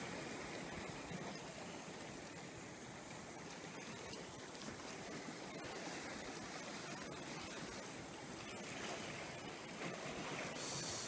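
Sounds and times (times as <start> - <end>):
sea waves: 0.0 - 11.0
wind: 0.0 - 11.0.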